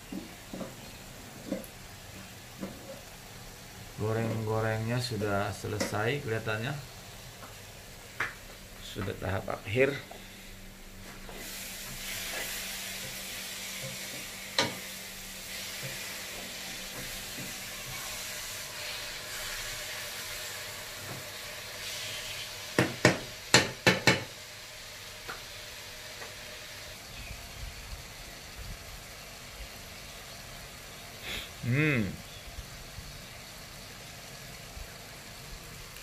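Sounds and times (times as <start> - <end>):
food sizzling in a wok: 0.0 - 36.0.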